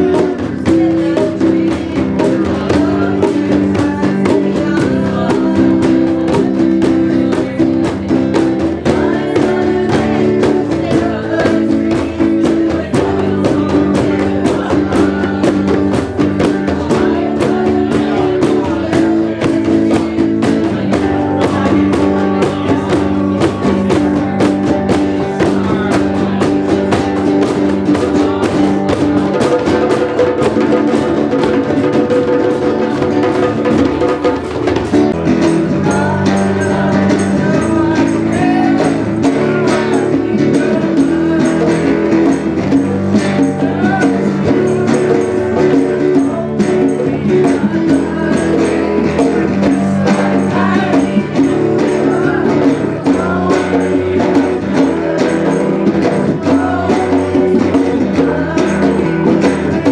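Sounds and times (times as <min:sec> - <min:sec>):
acoustic guitar: 0:00.0 - 0:59.9
hand drums playing: 0:00.0 - 0:59.9.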